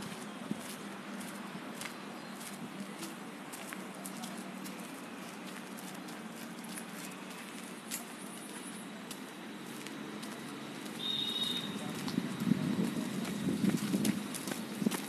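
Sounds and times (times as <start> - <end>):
footsteps on a dirt path: 0.0 - 15.0
outdoor ambience: 0.0 - 15.0.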